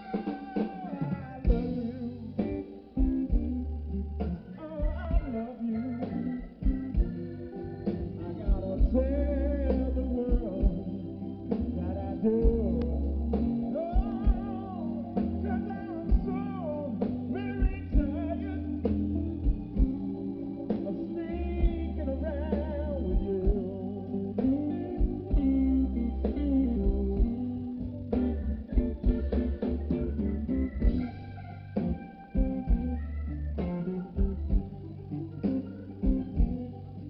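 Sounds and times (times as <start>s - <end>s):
live blues band playing: 0.0s - 37.0s.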